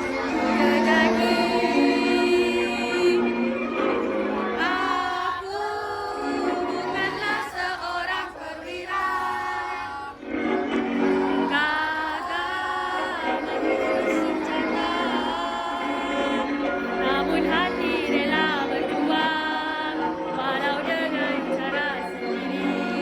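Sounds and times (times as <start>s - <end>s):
group of voices singing: 0.0s - 23.0s
musical accompaniment: 0.0s - 23.0s.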